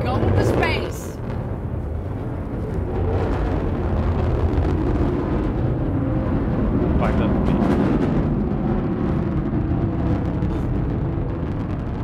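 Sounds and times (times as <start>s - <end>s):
rocket engine rumble: 0.0s - 12.0s.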